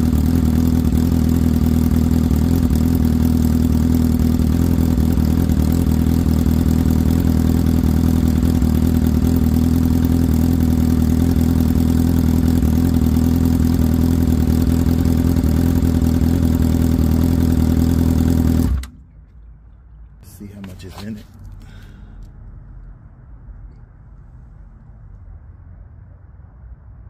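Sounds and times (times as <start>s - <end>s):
motorcycle engine idling: 0.0s - 22.4s.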